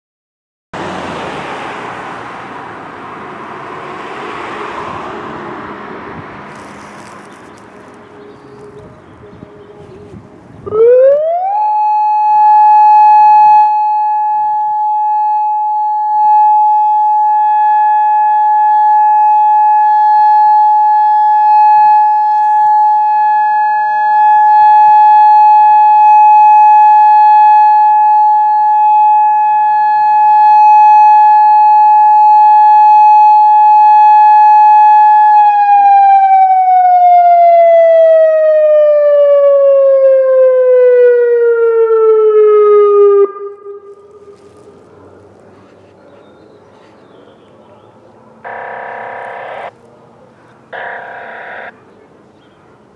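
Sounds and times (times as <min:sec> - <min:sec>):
warning siren: 0:00.8 - 0:44.9, 0:48.4 - 0:49.8, 0:50.7 - 0:51.8.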